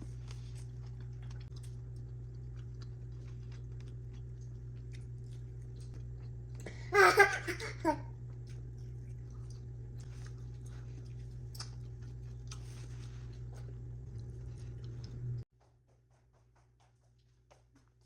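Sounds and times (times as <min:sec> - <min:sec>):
toddler chewing food: 0:00.0 - 0:15.4
steady low hum: 0:00.0 - 0:18.0.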